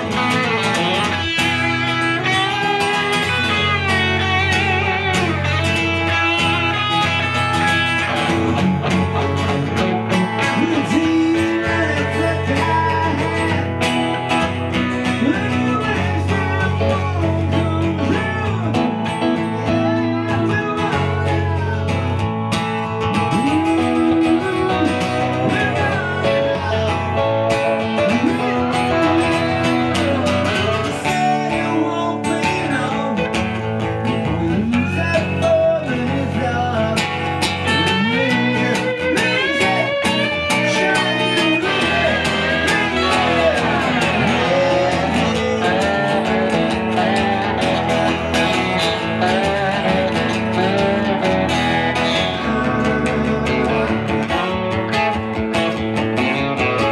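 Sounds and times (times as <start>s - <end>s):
country-blues band with guitar: 0.0s - 56.9s.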